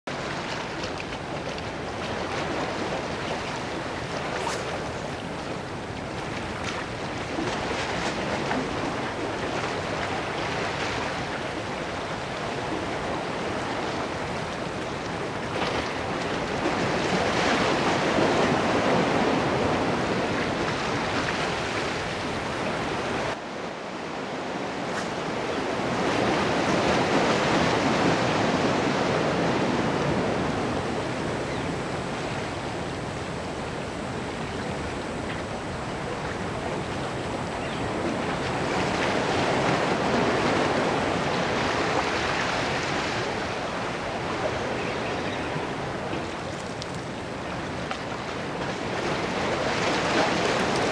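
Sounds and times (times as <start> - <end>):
surf washing against rocks: 0.1 - 31.5, 38.0 - 50.9.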